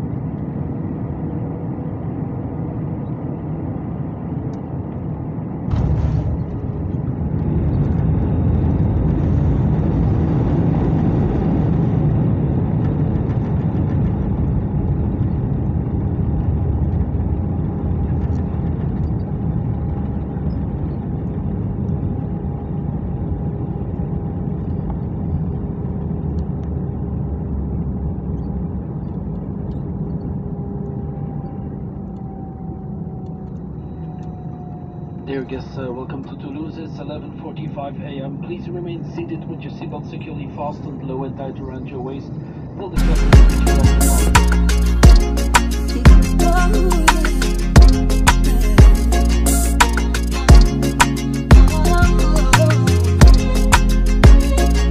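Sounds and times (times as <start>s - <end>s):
faint whine: 0.0s - 54.9s
jet engines and wheels roaring: 0.0s - 54.9s.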